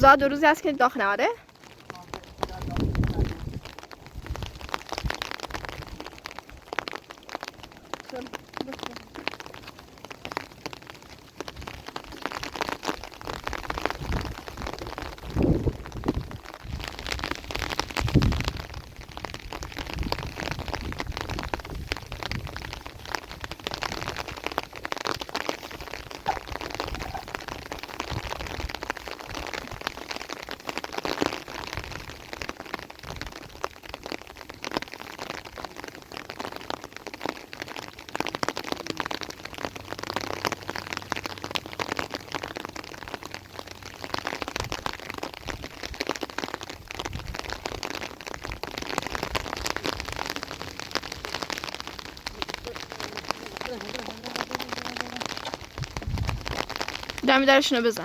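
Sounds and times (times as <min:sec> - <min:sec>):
rain pattering on a surface: 0:00.0 - 0:58.0.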